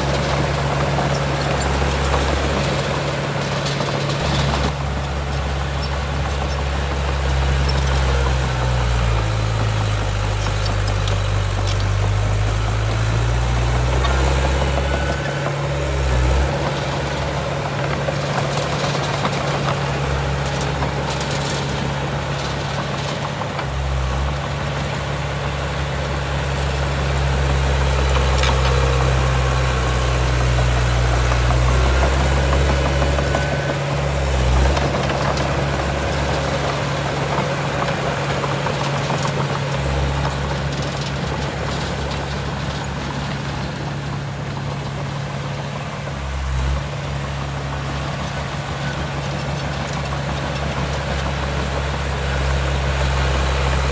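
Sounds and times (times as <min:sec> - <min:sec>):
diesel earthmoving machinery running: 0:00.0 - 0:53.9.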